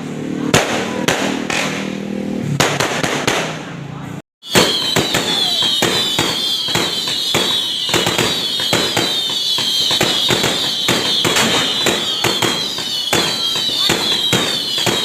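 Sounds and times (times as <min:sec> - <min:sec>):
fireworks bursting: 0:00.5 - 0:03.7, 0:04.4 - 0:15.0.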